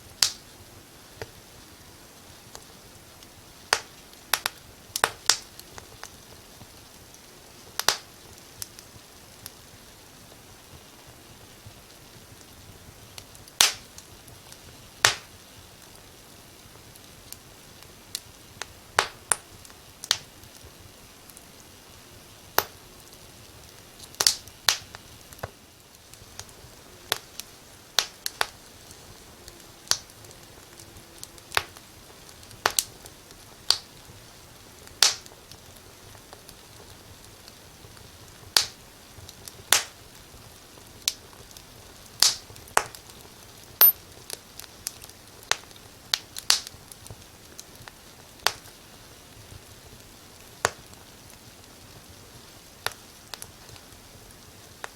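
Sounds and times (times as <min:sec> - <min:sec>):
faint steady hiss: 0:00.0 - 0:54.9
fire crackling and popping: 0:00.0 - 0:54.9.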